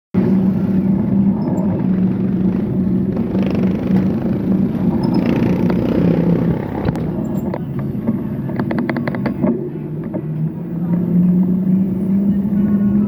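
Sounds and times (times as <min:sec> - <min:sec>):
road ride rumble in traffic: 0:00.1 - 0:13.0
low wavering hum: 0:00.2 - 0:13.0.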